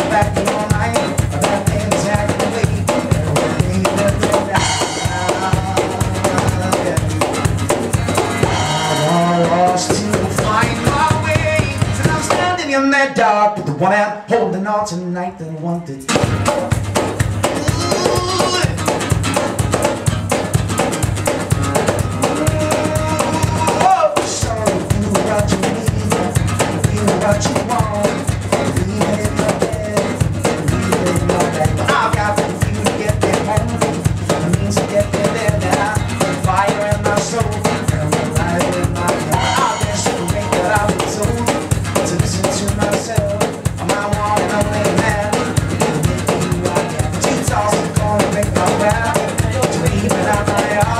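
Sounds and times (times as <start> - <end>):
cajon beat slapped by hand: 0.0 - 12.7, 16.1 - 50.9
acoustic guitar strummed hard: 0.0 - 14.7, 16.1 - 50.9
man singing: 0.0 - 19.2, 21.7 - 50.9.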